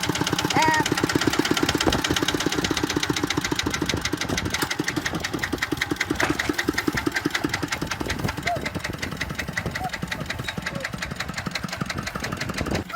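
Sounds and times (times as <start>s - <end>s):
tractor engine knocking: 0.0s - 12.9s.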